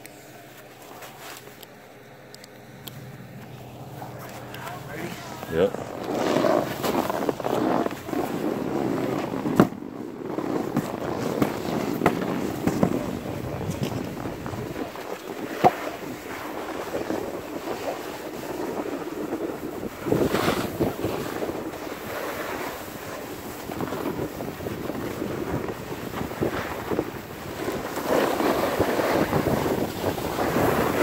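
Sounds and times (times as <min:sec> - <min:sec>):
snowboard scraping over snow: 0:00.5 - 0:01.5, 0:03.5 - 0:31.0
wind buffeting microphone: 0:03.7 - 0:22.2, 0:22.8 - 0:31.0.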